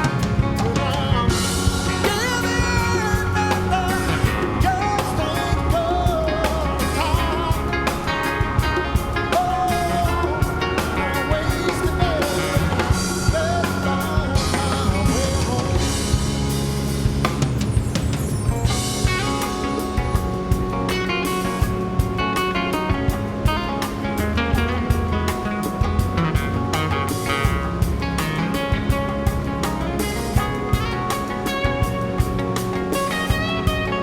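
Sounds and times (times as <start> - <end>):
rock song: 0.0 - 34.0.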